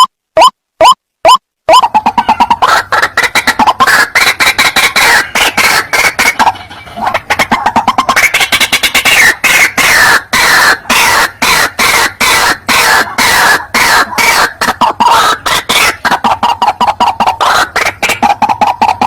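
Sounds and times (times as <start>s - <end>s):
waterhen calling: 1.7s - 19.0s.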